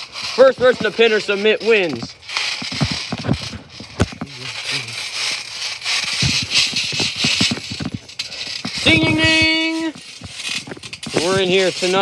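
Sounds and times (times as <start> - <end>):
trampoline springs rattling: 0.0 - 12.0.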